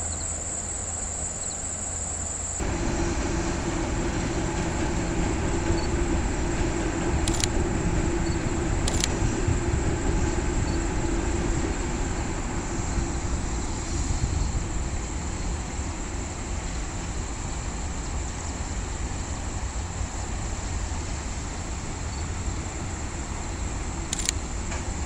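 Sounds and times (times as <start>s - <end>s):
distant freight train rumble: 0.0s - 25.0s.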